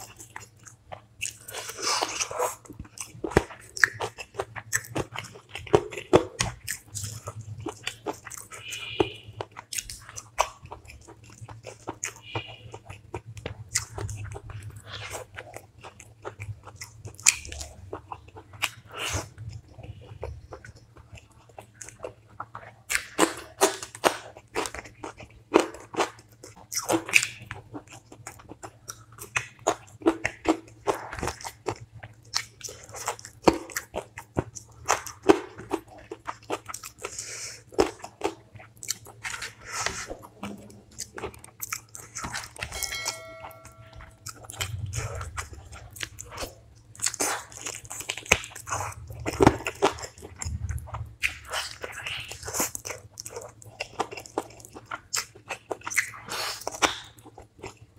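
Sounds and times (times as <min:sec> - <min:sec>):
person chewing food: 0:00.0 - 0:57.9.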